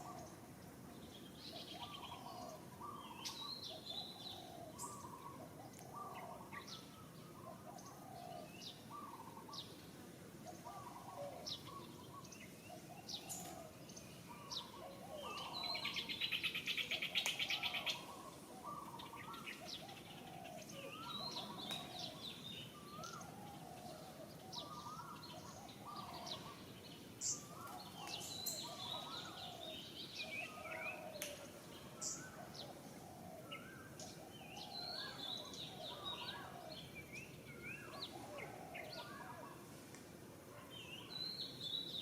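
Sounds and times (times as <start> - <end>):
birds calling and chirping: 0.0 - 42.0
steady outdoor hiss: 0.0 - 42.0.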